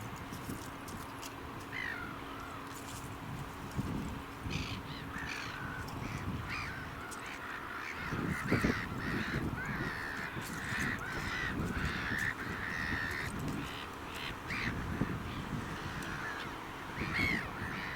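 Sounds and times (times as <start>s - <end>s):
gulls calling: 1.5s - 2.9s, 4.3s - 17.9s.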